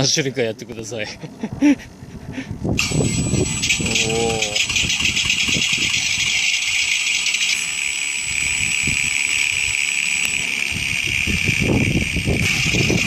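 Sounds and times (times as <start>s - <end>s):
propeller plane engine: 1.2s - 13.0s.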